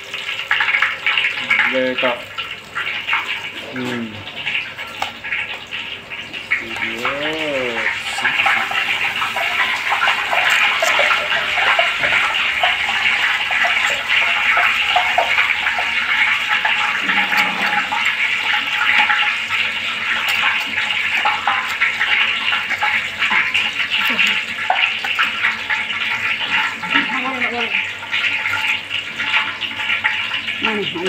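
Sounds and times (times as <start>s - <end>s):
hot oil sizzling and crackling: 0.0s - 31.0s.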